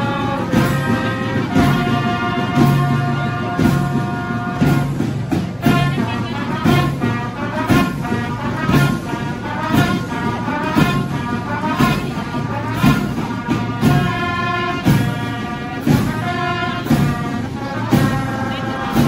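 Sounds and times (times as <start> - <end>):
drum beats: 0.0 - 19.0
school band playing: 0.0 - 19.0.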